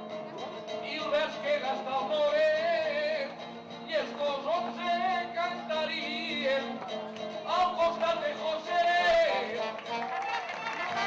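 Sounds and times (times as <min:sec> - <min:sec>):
man singing with vibrato: 0:00.0 - 0:10.0
small band of brass and guitar: 0:00.0 - 0:11.0.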